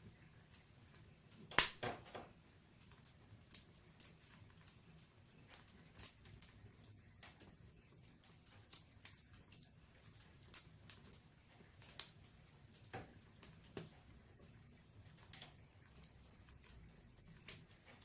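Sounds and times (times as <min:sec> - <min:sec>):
wood fire crackling: 0:00.0 - 0:18.0
fire pops and snaps: 0:00.5 - 0:18.0.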